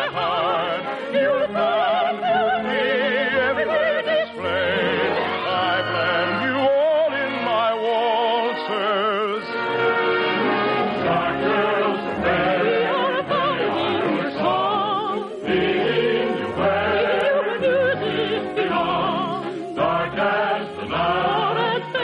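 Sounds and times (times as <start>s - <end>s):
operatic singers with vibrato: 0.0s - 22.0s
orchestra playing: 0.1s - 22.0s.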